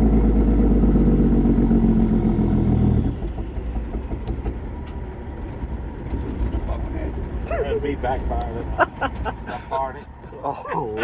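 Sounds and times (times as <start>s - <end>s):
loud diesel truck engine: 0.0s - 11.0s.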